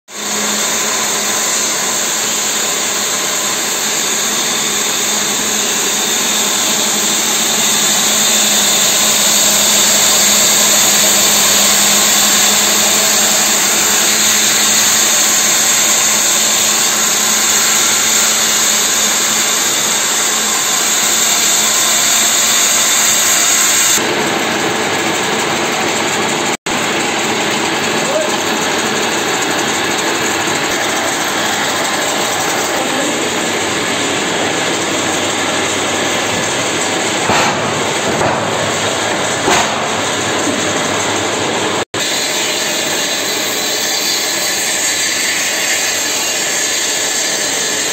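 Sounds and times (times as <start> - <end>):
circular saw motor humming: 0.1 - 47.6.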